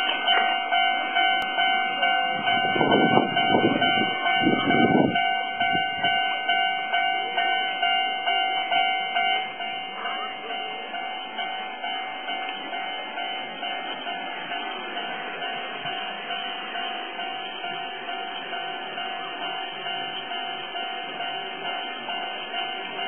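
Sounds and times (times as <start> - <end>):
level crossing bell ringing: 0.0 - 23.0.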